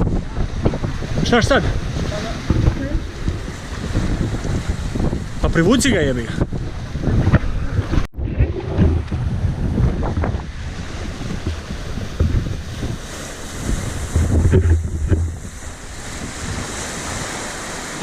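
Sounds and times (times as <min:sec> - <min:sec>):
waves rushing: 0:00.0 - 0:18.0
wind buffeting microphone: 0:00.0 - 0:18.0.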